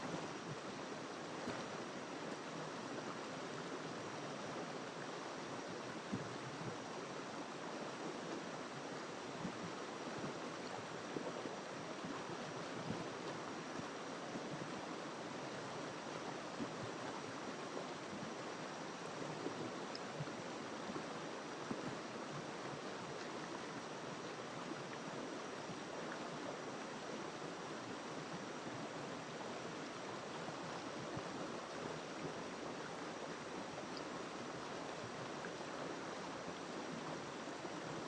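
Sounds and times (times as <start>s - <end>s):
water splashes and gurgles: 0.0s - 38.0s.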